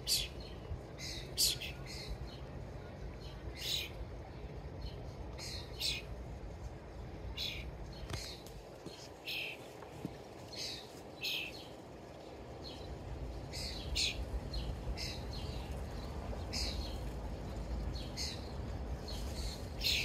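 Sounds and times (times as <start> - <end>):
birds chirping: 0.0 - 6.2, 7.0 - 20.0.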